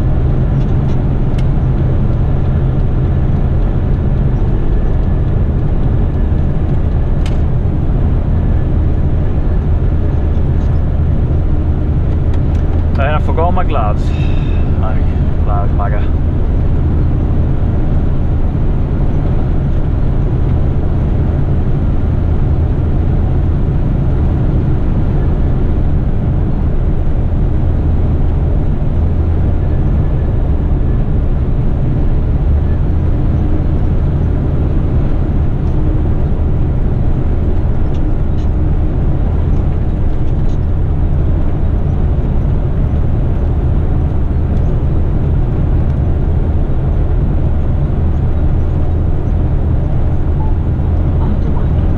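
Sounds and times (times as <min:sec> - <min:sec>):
road noise: 0:00.0 - 0:51.9
truck diesel engine driving: 0:00.0 - 0:51.9.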